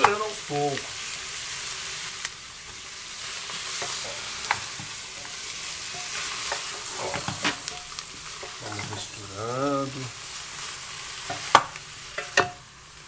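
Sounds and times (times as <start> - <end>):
meat sizzling in hot fat: 0.0 - 13.0.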